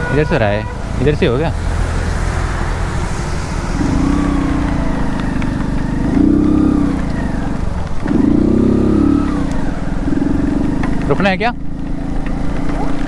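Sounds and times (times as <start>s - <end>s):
steady rushing noise: 0.8s - 13.0s
motorcycle engine revving: 0.9s - 13.0s.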